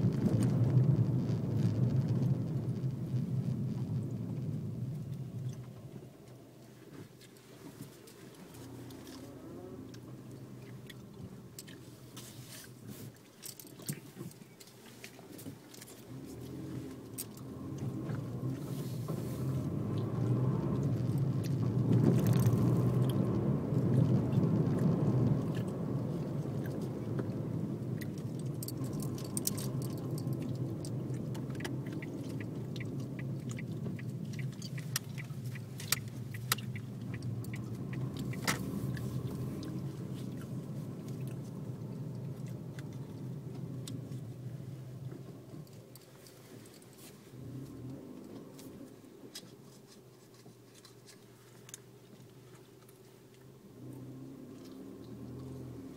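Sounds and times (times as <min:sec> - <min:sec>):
car engine and tyre noise: 0:00.0 - 0:55.9
light clicks and rattles: 0:00.1 - 0:55.8.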